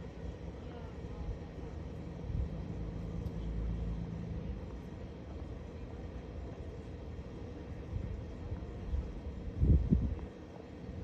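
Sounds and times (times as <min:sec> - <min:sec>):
light airplane engine drone: 0:00.0 - 0:11.0.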